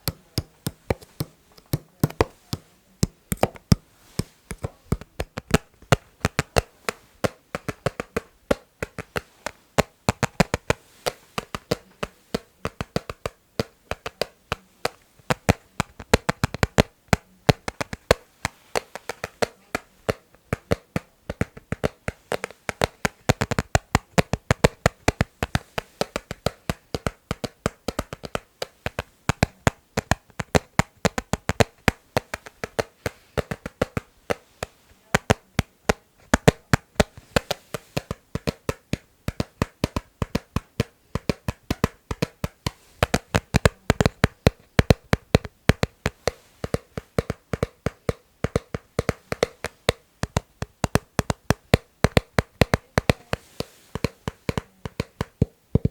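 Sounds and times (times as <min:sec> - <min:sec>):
tapping on hard object: 0:00.0 - 0:55.9.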